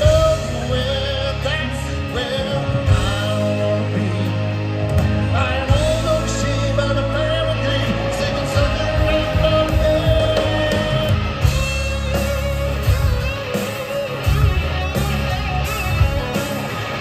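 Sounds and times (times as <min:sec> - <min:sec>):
bass guitar: 0:00.0 - 0:17.0
drum kit steady beat: 0:00.0 - 0:17.0
guitars: 0:00.0 - 0:17.0
fiddle: 0:00.5 - 0:17.0.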